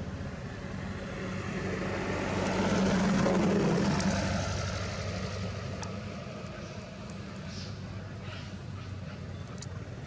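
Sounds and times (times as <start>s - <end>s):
passing vehicle engine hum: 0.0s - 10.0s.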